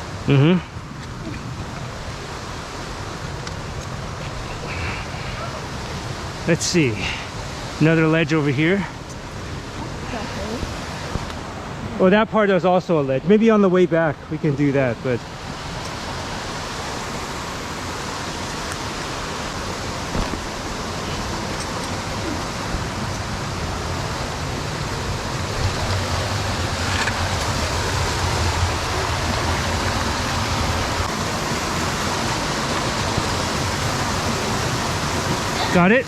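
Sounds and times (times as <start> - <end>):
creek rushing over boulders: 0.0 - 36.0.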